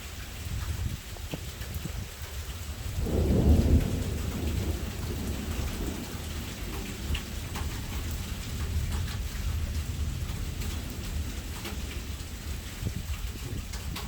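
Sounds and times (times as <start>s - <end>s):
raindrops ticking on a surface: 0.0s - 14.0s
steady rain: 0.0s - 14.0s
thunder rumbling: 1.8s - 14.0s.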